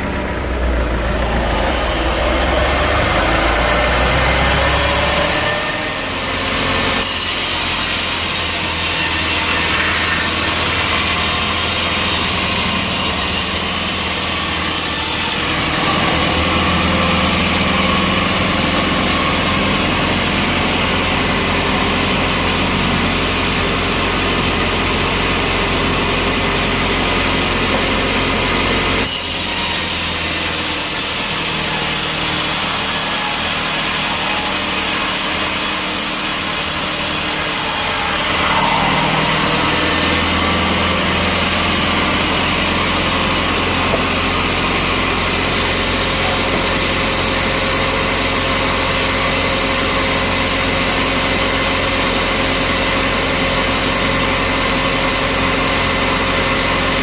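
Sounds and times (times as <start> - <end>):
engine drone: 0.0 - 8.3, 8.9 - 57.0
saw cutting through log: 0.0 - 57.0.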